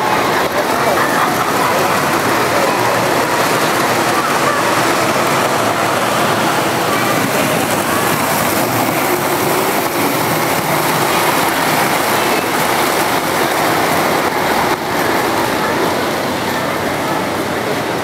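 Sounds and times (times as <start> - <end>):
busy hall crowd din: 0.0 - 18.0
model train running on track: 0.0 - 18.0.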